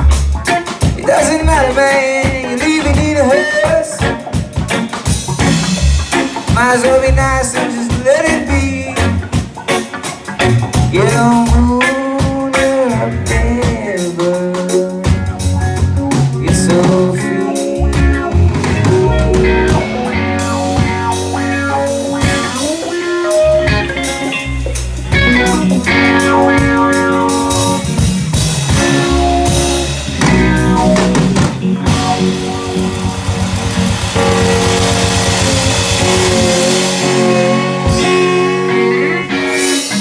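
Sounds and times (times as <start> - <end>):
bass guitar: 0.0 - 40.0
drum kit: 0.0 - 40.0
electric guitar lead with bends: 0.0 - 40.0.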